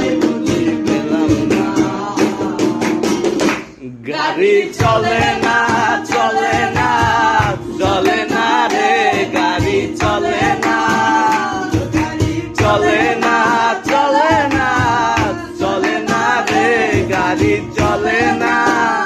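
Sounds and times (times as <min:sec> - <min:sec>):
men singing folk song together: 0:00.0 - 0:02.9, 0:04.0 - 0:19.0
acoustic guitar strumming: 0:00.0 - 0:03.8, 0:04.6 - 0:19.0
hand claps: 0:00.0 - 0:03.8, 0:04.8 - 0:19.0.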